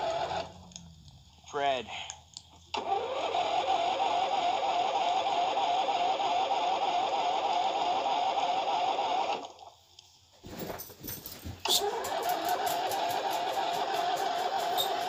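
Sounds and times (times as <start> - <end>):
electric starter cranking engine: 0.0 - 9.6, 11.6 - 15.0.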